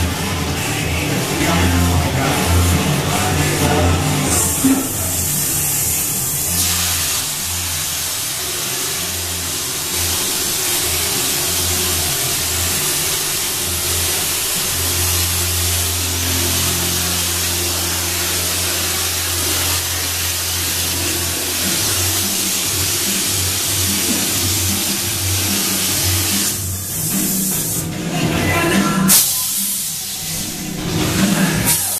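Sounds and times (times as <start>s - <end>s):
low hum: 0.0s - 25.8s
texture spray gun air hiss: 1.1s - 27.9s, 29.1s - 31.9s.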